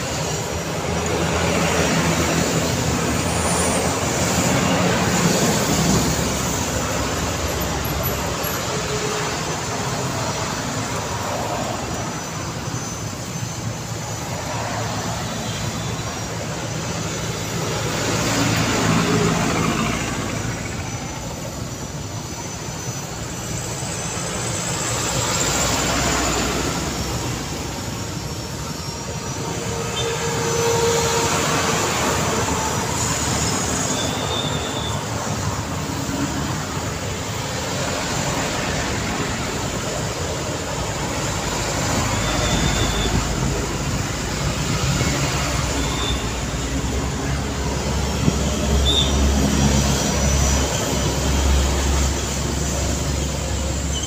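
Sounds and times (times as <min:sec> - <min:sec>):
diesel truck engine rumble: 0:00.0 - 0:54.0
motorbike and car engines: 0:00.0 - 0:54.0.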